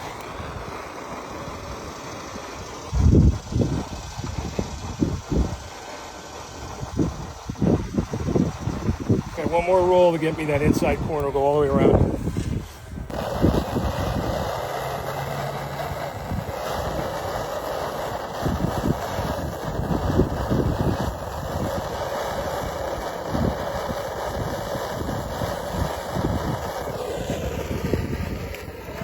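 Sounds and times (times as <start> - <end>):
torch flame hissing: 0.0 - 29.0
wind buffeting microphone: 2.5 - 5.8, 6.4 - 29.0.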